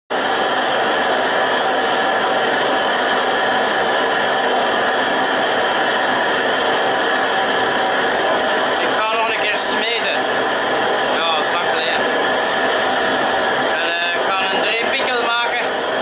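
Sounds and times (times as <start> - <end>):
gas forge burner roaring: 0.1 - 16.0.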